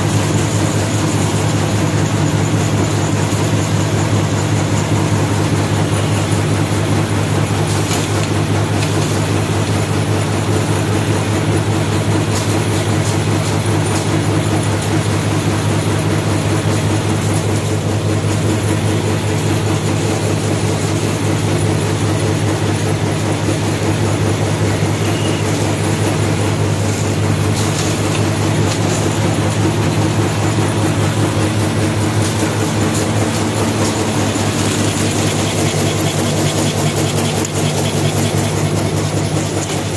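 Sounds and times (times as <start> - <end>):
packing machine running: 0.0 - 39.9.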